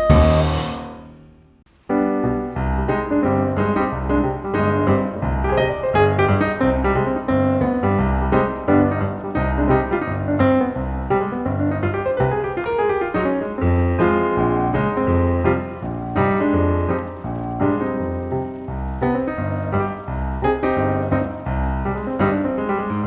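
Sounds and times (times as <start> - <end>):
piano music with bass line: 0.0 - 23.0.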